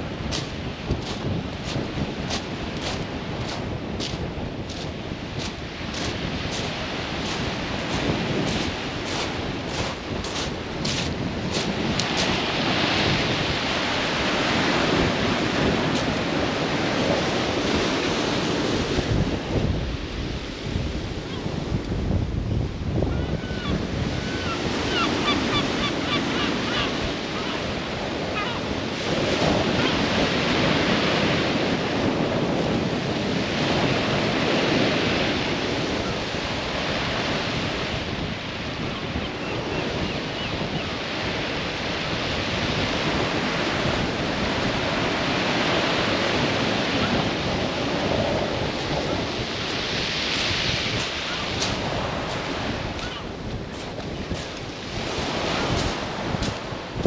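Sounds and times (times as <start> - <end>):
sea waves breaking on beach: 0.0 - 57.0
wind buffeting microphone: 0.0 - 57.0.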